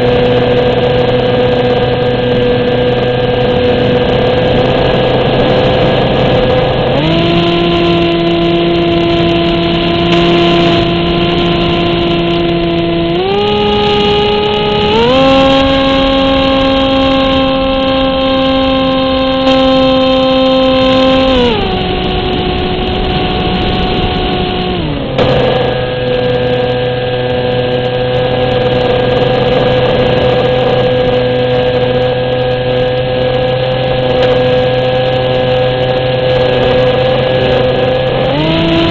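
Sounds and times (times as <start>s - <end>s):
electric motor and propeller whine: 0.0s - 38.9s
wind rush: 0.0s - 38.9s.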